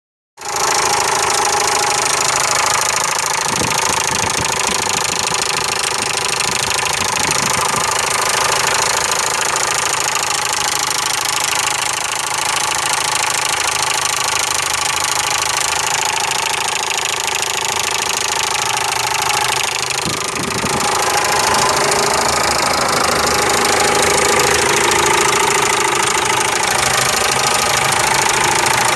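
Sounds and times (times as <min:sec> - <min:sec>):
engine running with knocking: 0:00.4 - 0:28.9.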